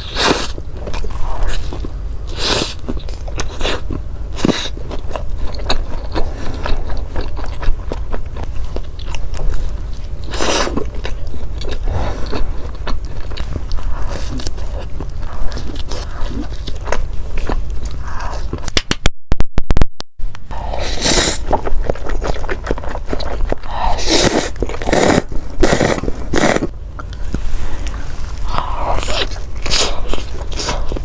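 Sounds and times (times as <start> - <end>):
person chewing food: 0.0 - 18.8, 20.5 - 31.0.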